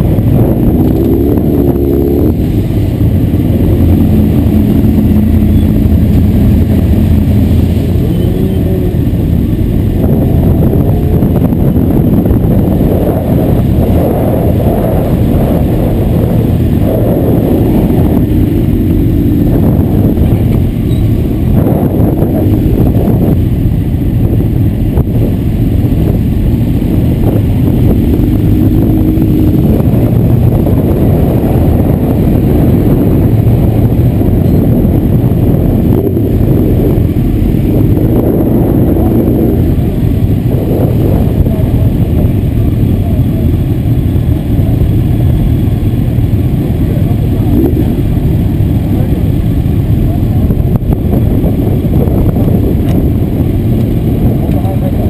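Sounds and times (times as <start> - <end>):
motorcycle engines idling and revving: 0.0 - 55.0.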